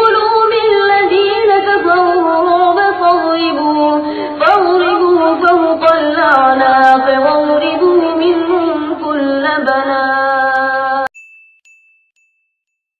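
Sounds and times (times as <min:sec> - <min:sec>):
melodic recitation by high voice: 0:00.0 - 0:11.1.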